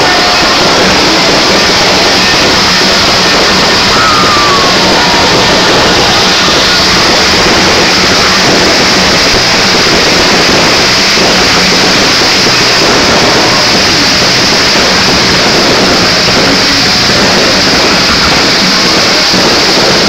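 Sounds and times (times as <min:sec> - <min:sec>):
fireworks bangs and crackle: 0:00.0 - 0:20.0.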